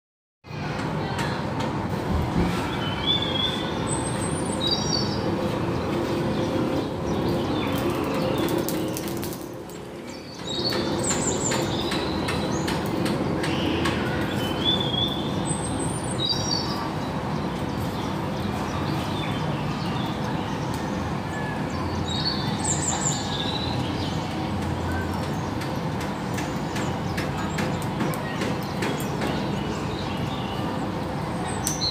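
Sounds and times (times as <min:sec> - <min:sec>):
loud steady rushing noise: 0:00.5 - 0:31.9
small birds chirping: 0:02.3 - 0:31.9.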